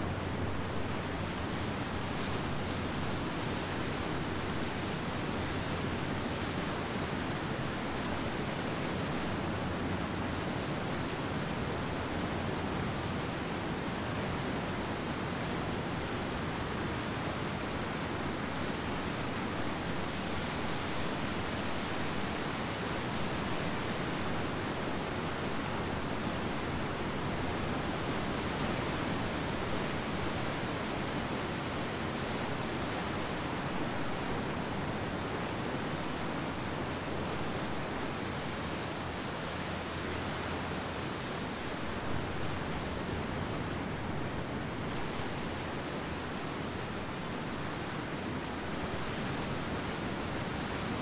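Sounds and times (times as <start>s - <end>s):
ocean surf on beach: 0.0s - 51.0s.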